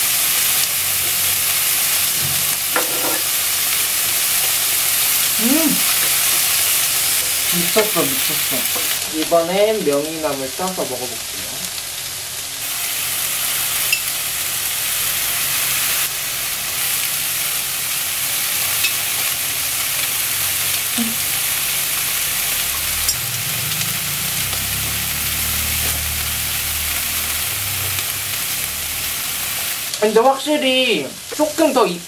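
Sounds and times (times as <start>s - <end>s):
meat sizzling on a grill pan: 0.0s - 32.0s.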